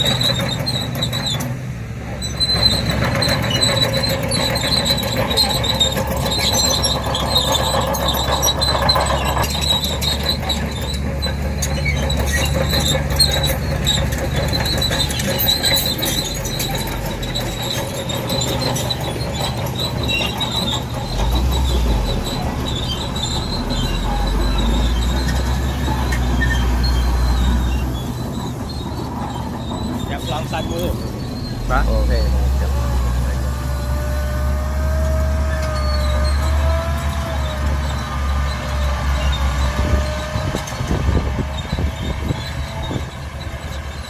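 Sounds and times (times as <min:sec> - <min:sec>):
bulldozer diesel engine: 0:00.0 - 0:44.0
steel tracks squealing: 0:00.0 - 0:44.0.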